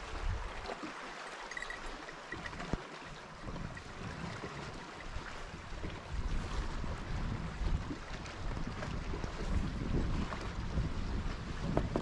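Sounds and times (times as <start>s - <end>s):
wind buffeting microphone: 0.0s - 0.7s, 1.6s - 12.0s
waves lapping against kayak hull: 0.0s - 12.0s.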